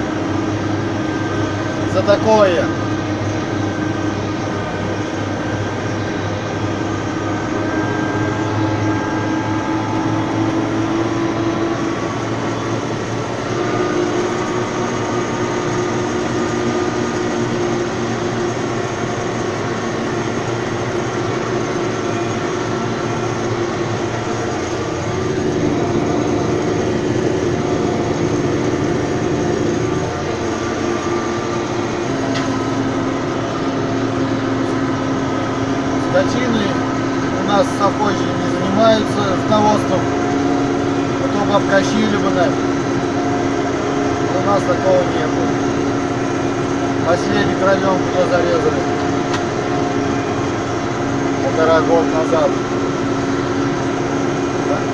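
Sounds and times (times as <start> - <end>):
tractor engine droning: 0.0 - 54.9.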